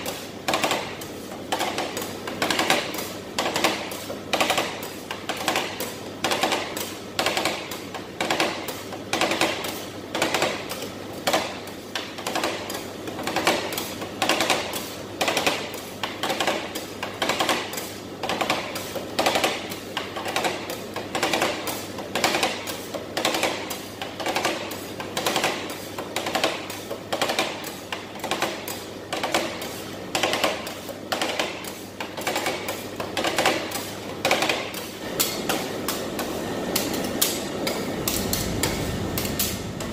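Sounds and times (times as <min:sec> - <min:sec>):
metal spatulas chopping on steel plate: 0:00.0 - 0:39.9.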